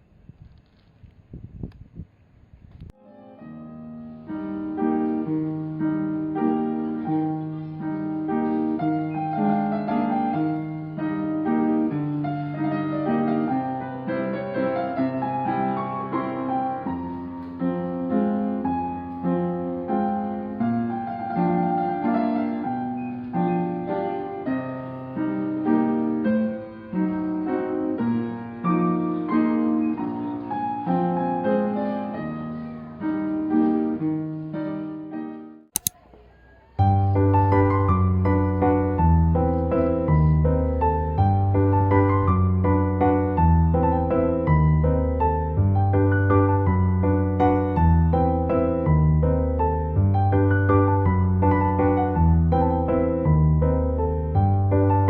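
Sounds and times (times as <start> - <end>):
piano music: 3.0 - 35.4, 36.8 - 55.0.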